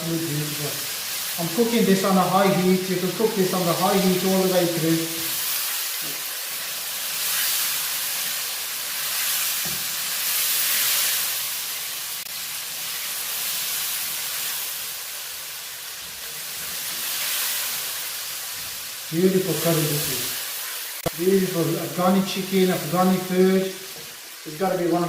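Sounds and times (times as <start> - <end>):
curry sizzling in oil: 0.0 - 25.0.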